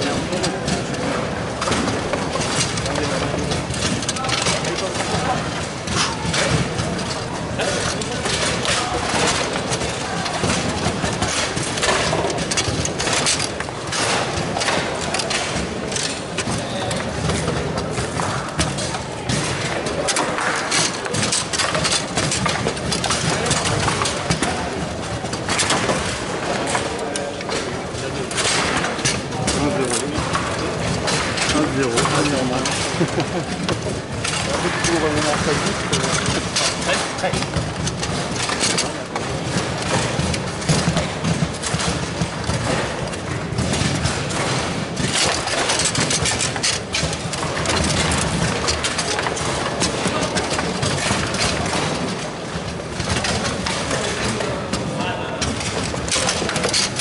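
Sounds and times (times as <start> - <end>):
foosball clacks: 0.0 - 57.0
steady rattling din: 0.0 - 57.0.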